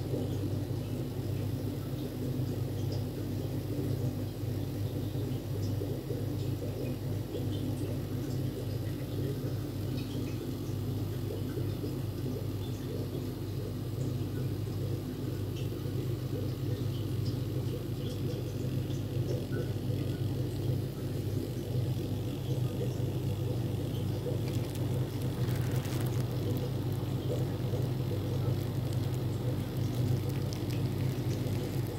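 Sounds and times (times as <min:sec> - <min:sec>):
low mechanical hum: 0:00.0 - 0:31.9.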